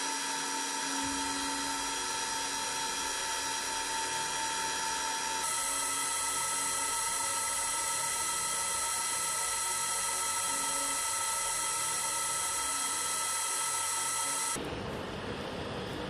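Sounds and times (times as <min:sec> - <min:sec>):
metal cutting noise: 0:00.0 - 0:14.6
milling machine high-pitched whine: 0:00.0 - 0:14.6.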